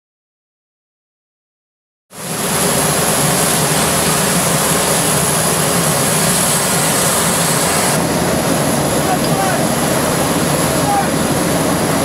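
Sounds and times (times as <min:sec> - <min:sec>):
high jet engine whine: 0:02.1 - 0:12.0
jet engines roaring: 0:02.1 - 0:12.0.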